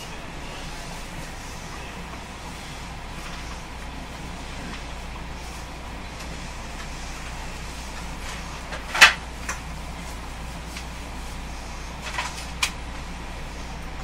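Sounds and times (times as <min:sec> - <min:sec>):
train interior low hum: 0:00.0 - 0:14.0.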